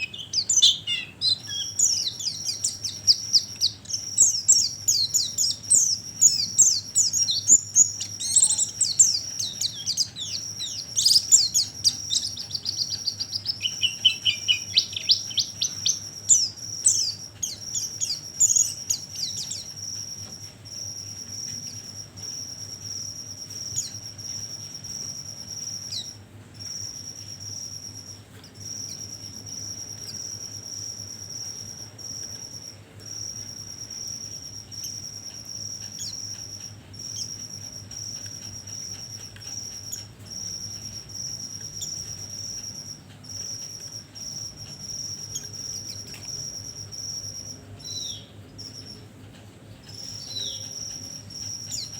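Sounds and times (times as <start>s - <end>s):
birds twittering in high chirps: 0.0s - 51.9s
high cricket-like trill: 0.0s - 51.9s.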